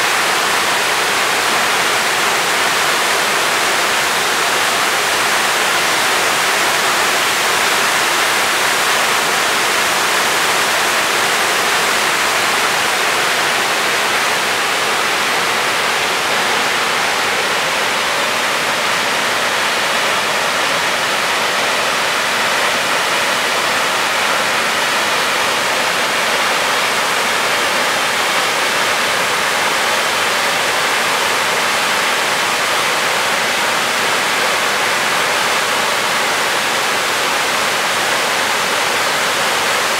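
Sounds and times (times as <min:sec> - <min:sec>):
waterfall crashing over rock: 0:00.0 - 0:39.9.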